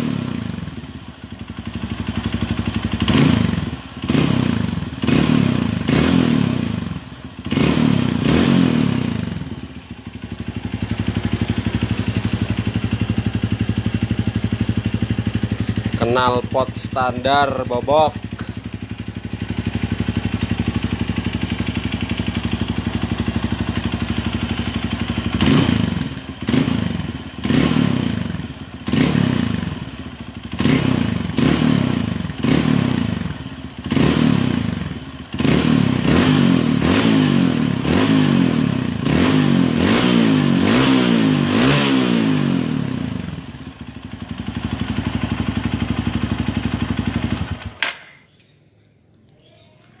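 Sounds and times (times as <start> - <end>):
motorcycle engine idling and revving: 0.0 - 48.6.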